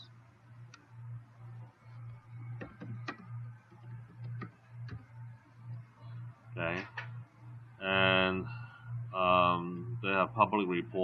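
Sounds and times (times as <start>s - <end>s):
pulsing low hum: 0.0s - 11.0s.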